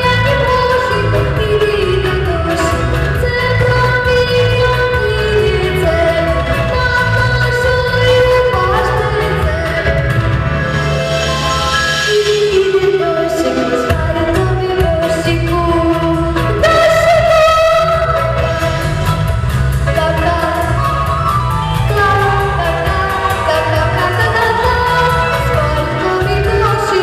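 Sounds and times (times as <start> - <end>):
instrumental accompaniment with beat: 0.0 - 27.0.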